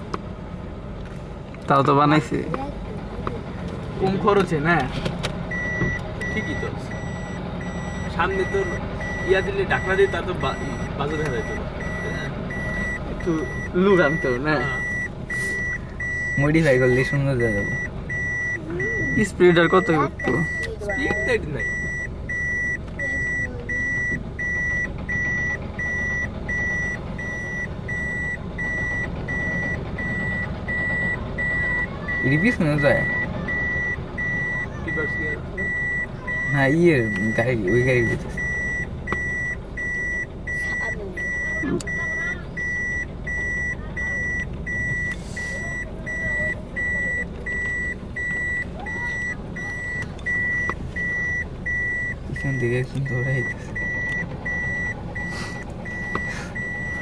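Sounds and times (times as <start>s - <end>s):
truck engine running low: 0.0s - 57.0s
reversing beeper: 5.5s - 57.0s.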